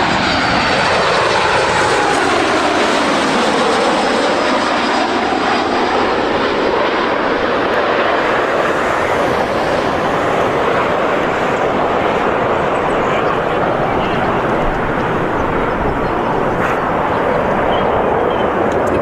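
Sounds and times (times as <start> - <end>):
jet engine rush of landing airliner: 0.0 - 19.0.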